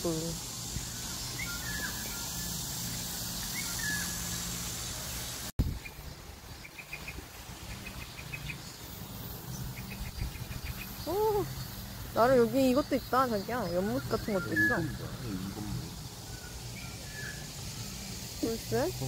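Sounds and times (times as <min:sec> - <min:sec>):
birds chirping: 0:00.0 - 0:19.0
steady high hiss: 0:00.0 - 0:19.0.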